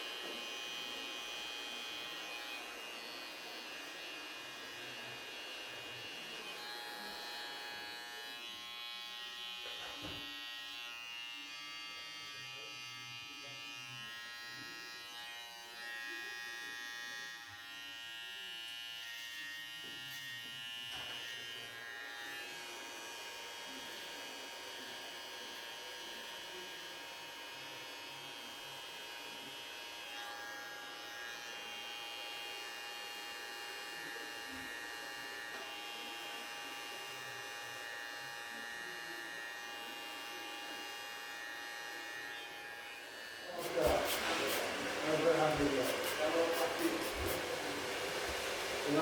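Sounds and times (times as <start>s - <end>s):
electric hair clippers buzzing: 0.0s - 49.0s.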